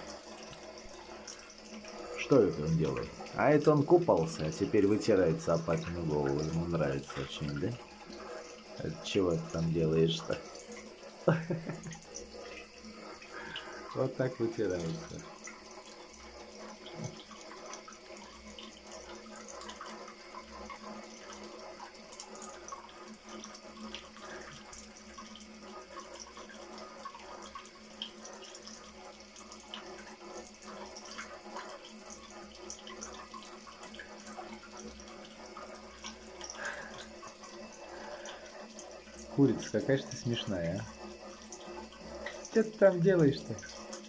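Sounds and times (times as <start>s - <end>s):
tap water running into sink: 0.0s - 44.0s.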